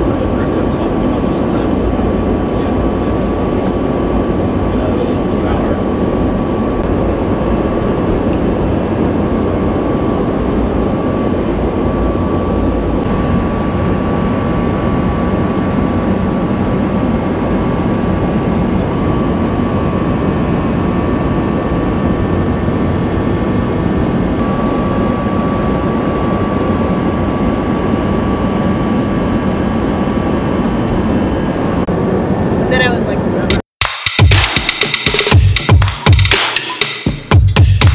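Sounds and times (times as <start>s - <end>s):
thin steady whine: 0.0s - 33.6s
jet cabin engine noise: 0.0s - 33.7s.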